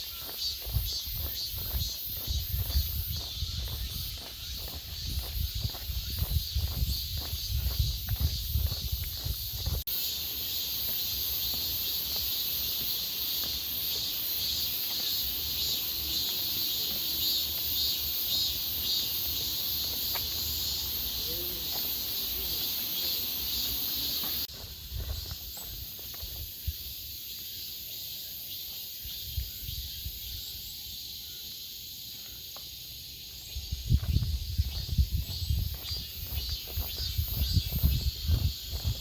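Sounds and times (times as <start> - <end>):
footsteps: 0.0 - 26.5, 33.3 - 39.0
cicadas buzzing: 0.0 - 39.0.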